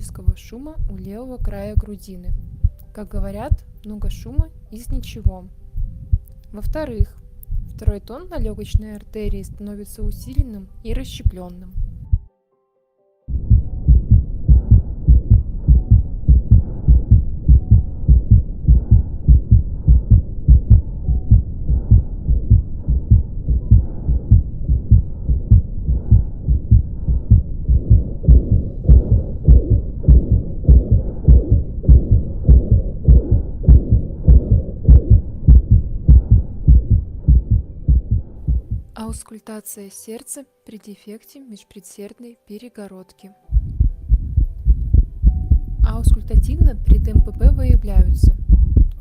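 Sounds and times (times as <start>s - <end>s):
heartbeats with murmur: 0.0s - 10.4s, 13.3s - 39.0s, 43.5s - 49.0s.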